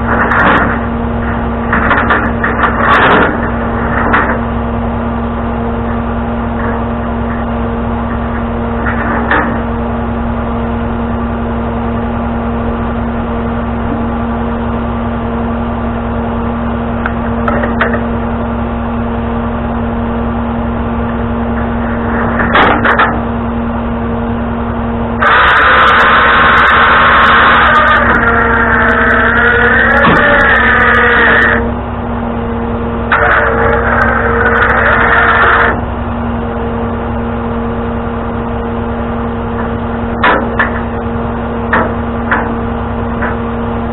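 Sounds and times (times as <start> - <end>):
truck engine humming: 0.0 - 43.9
wavering whine: 0.0 - 43.9.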